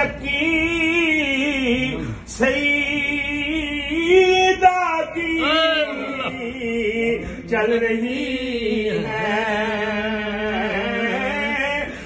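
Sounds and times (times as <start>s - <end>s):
men chanting: 0.0s - 12.0s.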